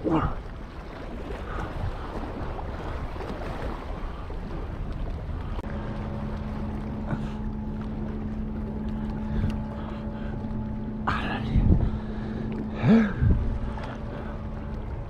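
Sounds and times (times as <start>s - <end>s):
boat engine hum: 0.0s - 15.0s
wind rumbling on microphone: 0.0s - 15.0s.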